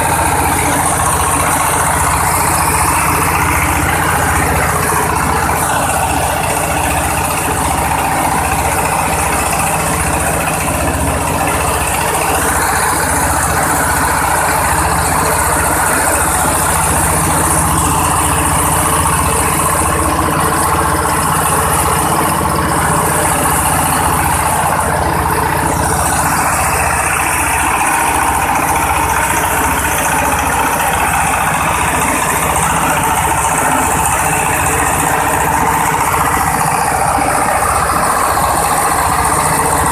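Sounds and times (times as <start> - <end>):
engine-driven chopper running: 0.0 - 39.9.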